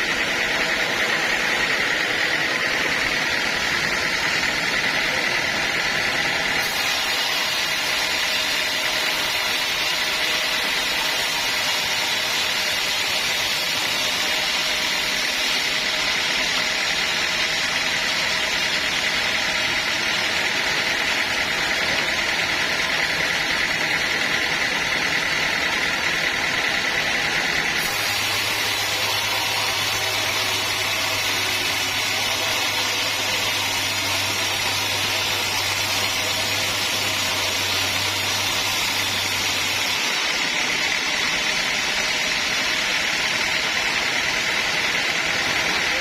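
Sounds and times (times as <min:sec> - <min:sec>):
sawmill machinery droning: 0:00.0 - 0:46.0.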